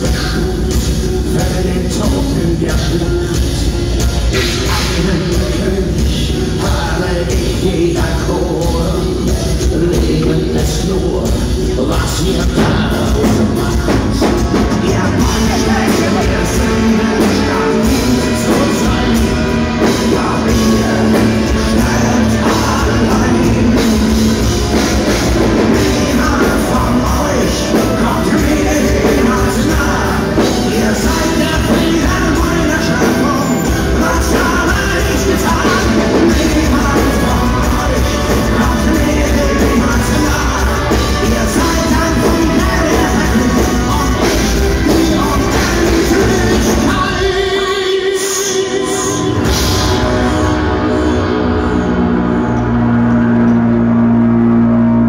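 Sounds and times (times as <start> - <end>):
man singing: 0.0 - 52.2
drums: 0.0 - 55.0
electric guitars: 0.0 - 55.0
loud live rock band: 0.0 - 55.0.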